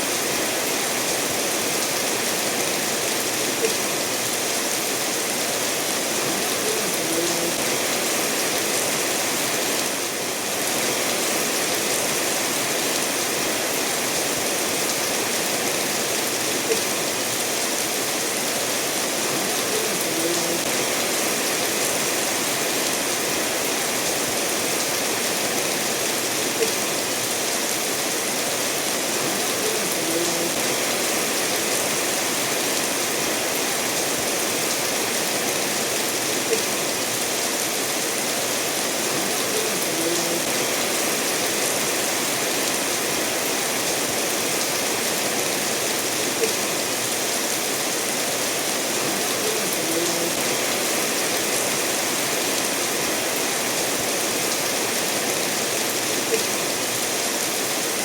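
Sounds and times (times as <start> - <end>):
steady rain: 0.0 - 58.0
stream running over stones: 0.0 - 58.0.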